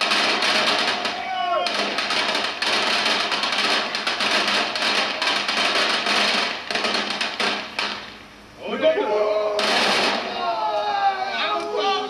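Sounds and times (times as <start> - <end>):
fireworks and firecrackers banging: 0.0 - 8.5, 9.6 - 10.7.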